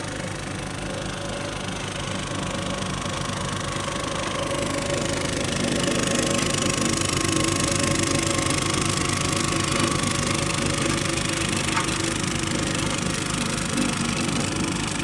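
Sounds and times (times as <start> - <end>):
road roller engine chugging: 0.0 - 15.0.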